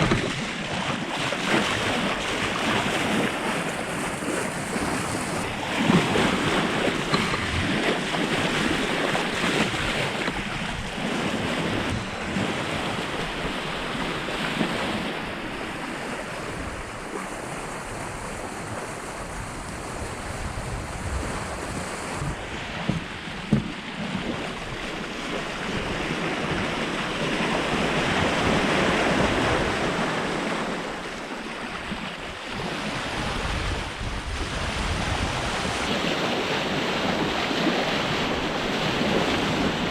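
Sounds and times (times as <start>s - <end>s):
water splashing past boat hull: 0.0s - 39.9s
wind on microphone: 0.0s - 39.9s.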